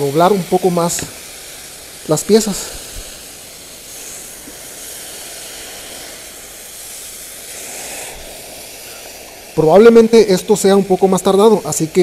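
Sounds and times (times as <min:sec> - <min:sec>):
steam hissing from iron: 0:00.0 - 0:12.0.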